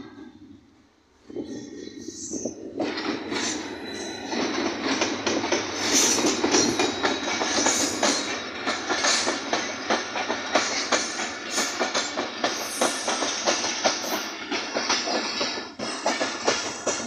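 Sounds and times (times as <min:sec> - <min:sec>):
train rumbling past: 0:00.0 - 0:17.0
wheels clicking over rail joints: 0:02.5 - 0:17.0.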